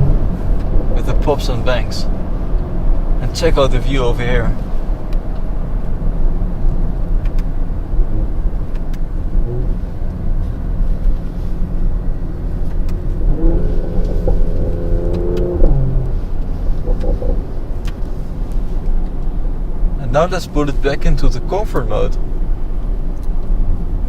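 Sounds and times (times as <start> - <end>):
car engine droning while driving: 0.0 - 24.0
road noise: 0.0 - 24.0.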